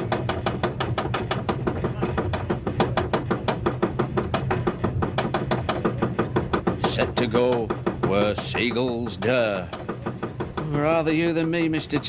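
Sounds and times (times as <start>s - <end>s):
roller coaster chain clacking: 0.0s - 12.0s
steady low hum: 0.0s - 12.0s.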